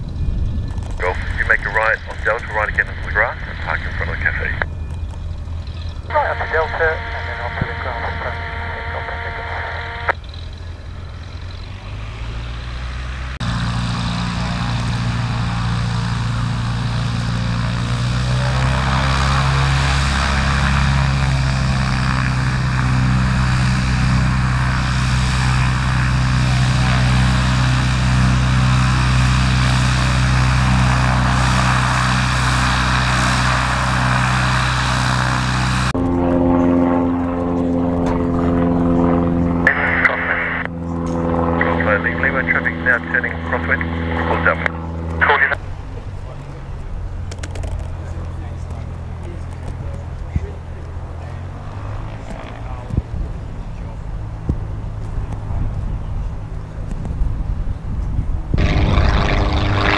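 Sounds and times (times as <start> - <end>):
propeller aircraft engine: 0.0 - 59.9.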